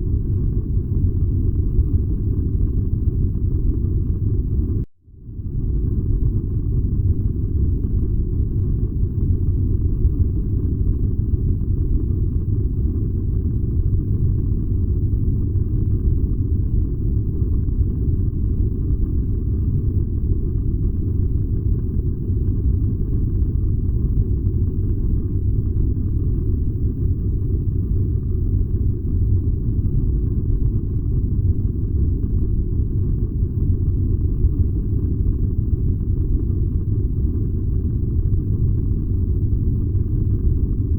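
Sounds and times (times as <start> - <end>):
furnace burning with deep rumble: 0.0 - 40.9.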